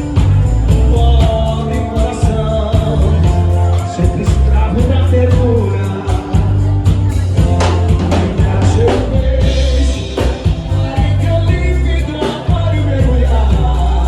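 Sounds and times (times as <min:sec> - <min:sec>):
bass line: 0:00.0 - 0:14.0
drum beat: 0:00.0 - 0:14.0
person singing: 0:00.0 - 0:14.0.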